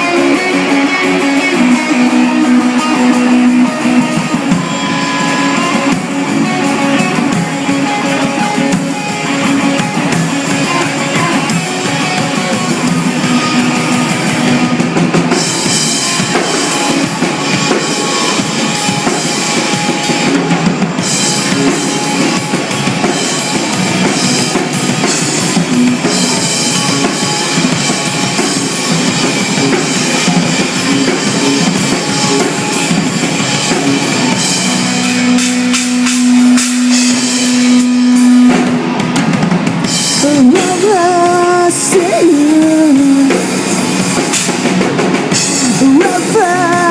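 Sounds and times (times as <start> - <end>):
bass guitar: 0.0 - 46.9
drum kit: 0.0 - 46.9
electric guitar: 0.0 - 46.9.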